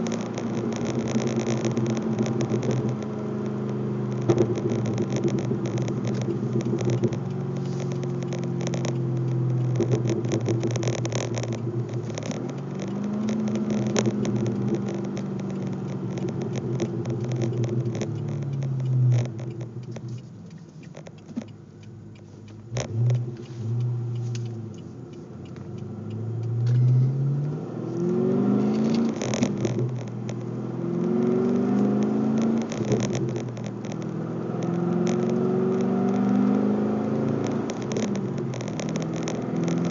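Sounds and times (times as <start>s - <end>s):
car engine revving and shifting: 0.0s - 39.9s.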